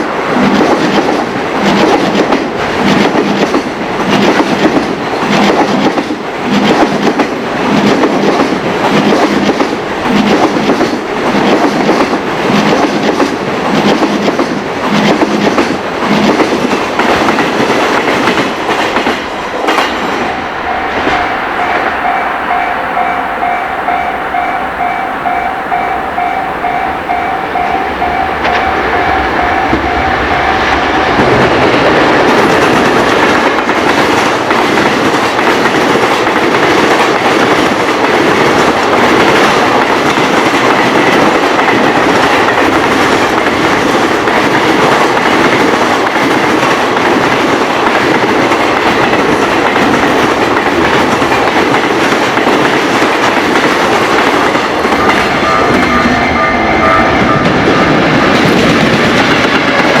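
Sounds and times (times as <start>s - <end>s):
freight train wheels clattering: 0.0s - 60.0s.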